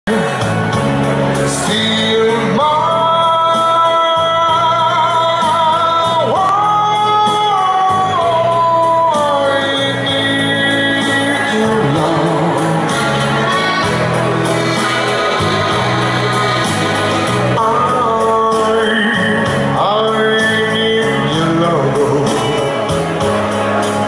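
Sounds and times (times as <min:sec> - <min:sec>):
man singing into a microphone: 0:00.1 - 0:14.1, 0:17.5 - 0:24.0
accordion music: 0:00.1 - 0:24.0
repeating bass line: 0:00.1 - 0:24.0.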